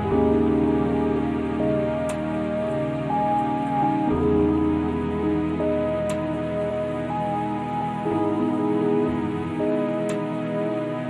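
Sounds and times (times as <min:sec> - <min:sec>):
sustained instrumental music: 0:00.0 - 0:11.0.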